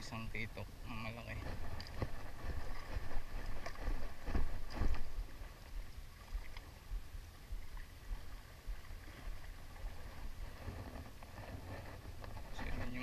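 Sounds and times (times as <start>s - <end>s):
wind rumble on microphone: 0.0s - 13.0s
small waves lapping against rocks: 0.1s - 13.0s.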